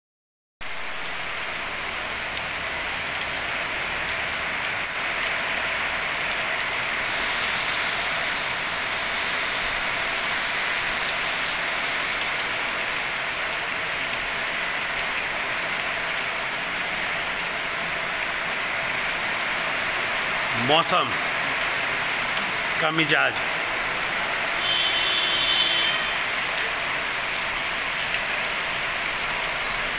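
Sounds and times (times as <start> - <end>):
heavy rain on paved road: 0.6 - 29.9.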